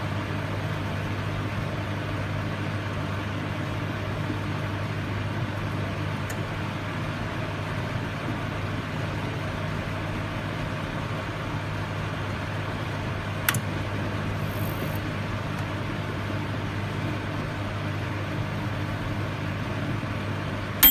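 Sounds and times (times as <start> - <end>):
microwave oven humming: 0.0 - 20.9.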